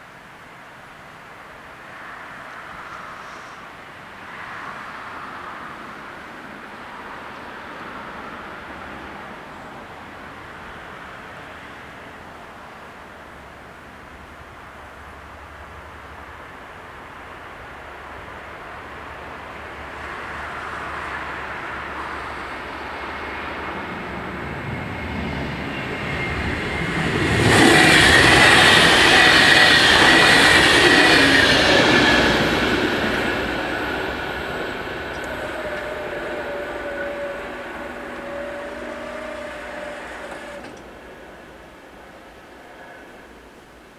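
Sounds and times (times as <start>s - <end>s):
high steady train whine: 0.0s - 43.9s
diesel train passing: 0.1s - 43.9s.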